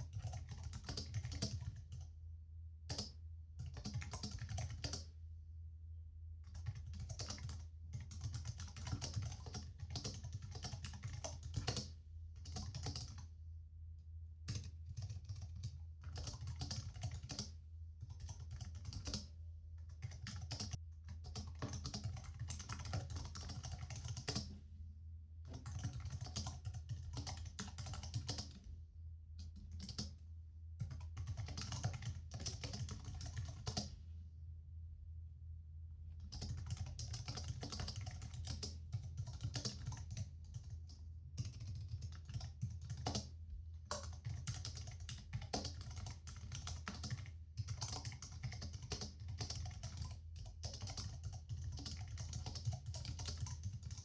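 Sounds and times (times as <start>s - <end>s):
computer keyboard typing: 0.0s - 2.1s, 2.9s - 5.1s, 6.4s - 13.3s, 14.5s - 24.6s, 25.5s - 28.7s, 29.4s - 30.2s, 30.8s - 34.0s, 36.2s - 54.0s.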